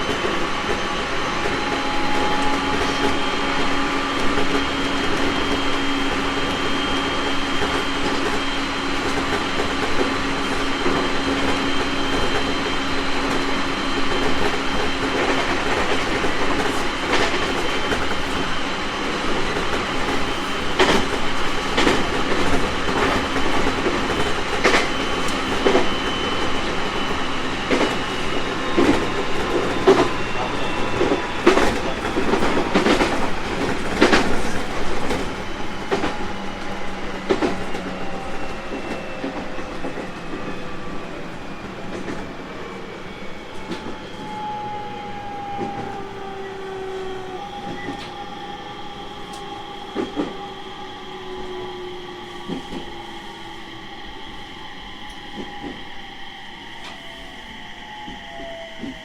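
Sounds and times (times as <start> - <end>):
train running with whining tones: 0.0 - 59.0.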